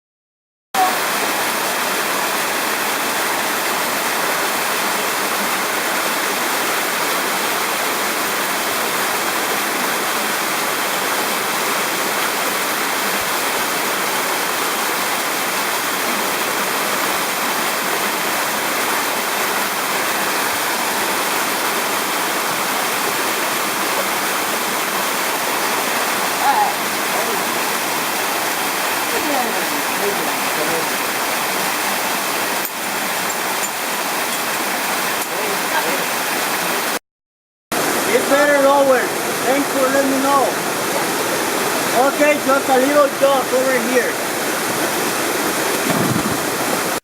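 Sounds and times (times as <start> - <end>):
rushing water: 0.8 - 37.0, 37.7 - 47.0.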